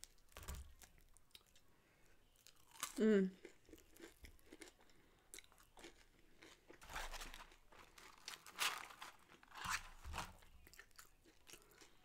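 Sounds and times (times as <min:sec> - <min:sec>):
fries being chewed and crunched: 0:00.0 - 0:01.7, 0:02.3 - 0:12.0.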